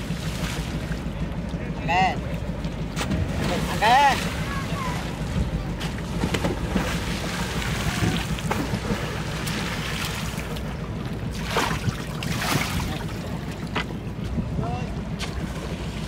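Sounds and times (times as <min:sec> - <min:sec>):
water splashes: 0:00.0 - 0:14.2
water lapping against boat: 0:00.0 - 0:16.0.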